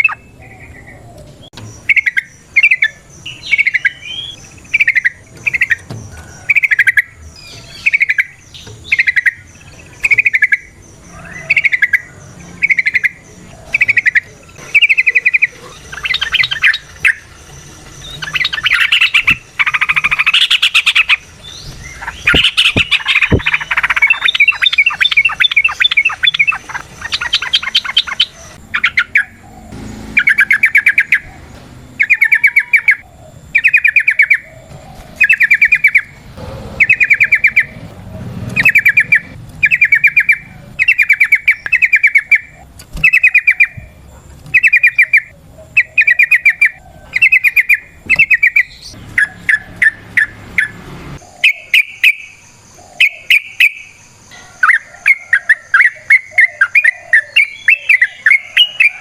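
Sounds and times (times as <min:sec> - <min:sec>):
bird singing chattering phrases: 0:00.0 - 0:59.0.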